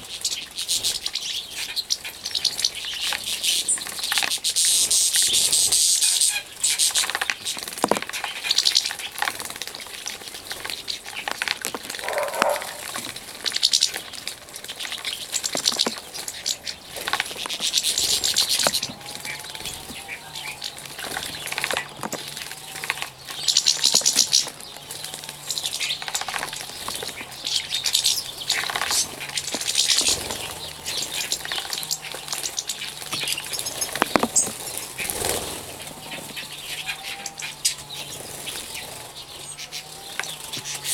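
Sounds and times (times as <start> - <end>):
bird chirps: 0.0 - 40.9
birds splashing and wing-fluttering: 0.0 - 40.9.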